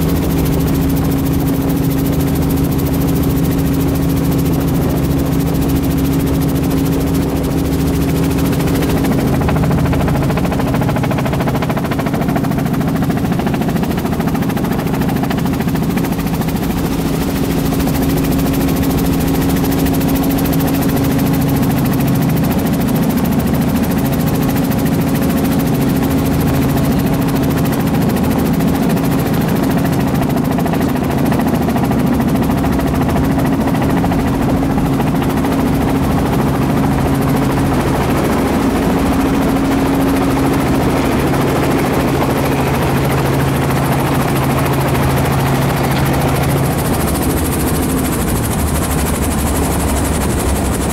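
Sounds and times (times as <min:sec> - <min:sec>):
helicopter engine and rotor: 0:00.0 - 0:50.9.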